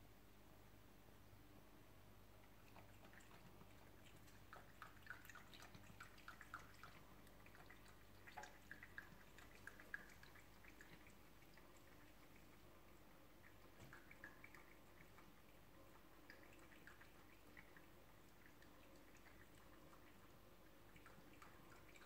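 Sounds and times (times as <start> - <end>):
cat lapping water: 2.3 - 22.0.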